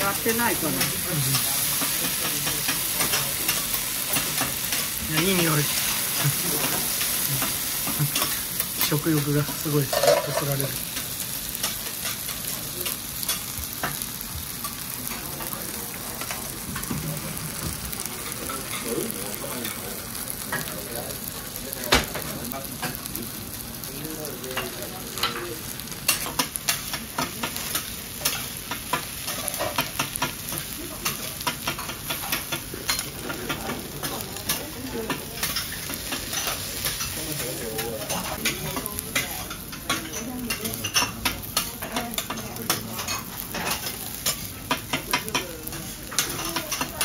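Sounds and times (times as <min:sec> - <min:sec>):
food sizzling on a griddle: 0:00.0 - 0:47.0.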